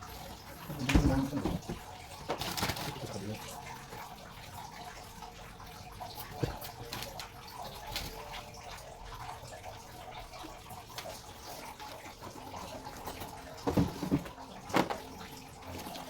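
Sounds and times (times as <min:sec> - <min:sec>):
water running: 0:00.0 - 0:16.0.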